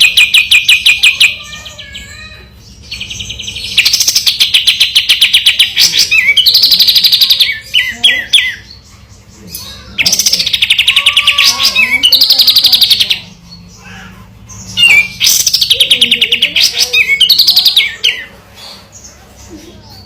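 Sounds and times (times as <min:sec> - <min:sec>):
bird trilling: 0:00.0 - 0:19.2.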